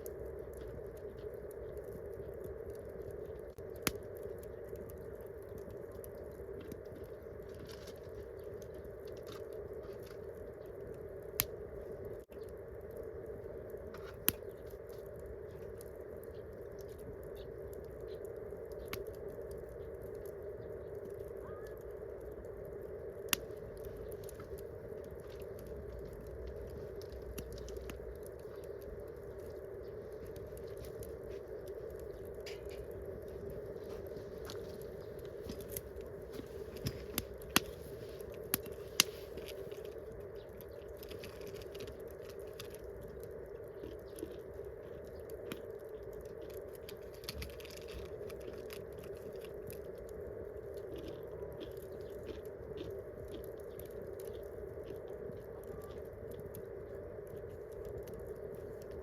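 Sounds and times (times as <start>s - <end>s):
campfire crackling: 0.0s - 59.0s
steady background hum: 0.0s - 59.0s.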